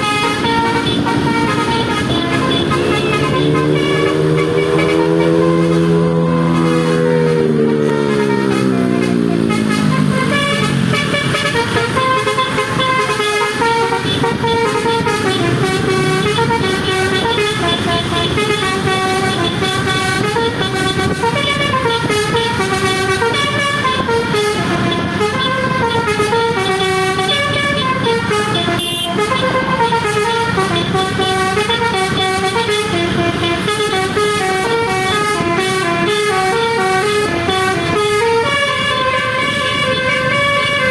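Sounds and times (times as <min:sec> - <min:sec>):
bus horn playing a tune: 0:00.0 - 0:40.9.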